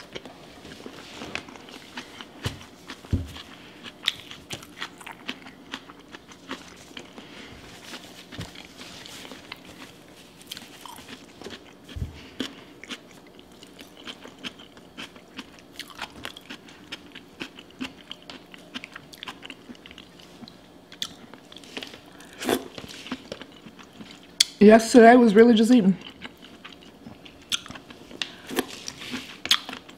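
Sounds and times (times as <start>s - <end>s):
person chewing wetly: 0.0s - 24.5s, 26.0s - 29.9s.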